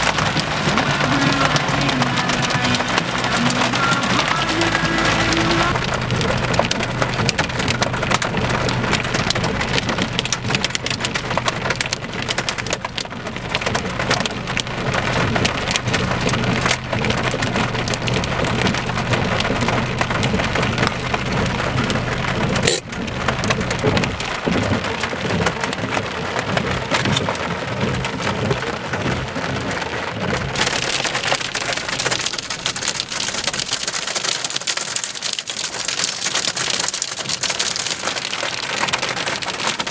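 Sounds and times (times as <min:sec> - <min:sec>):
hail and heavy rain: 0:00.0 - 0:39.9.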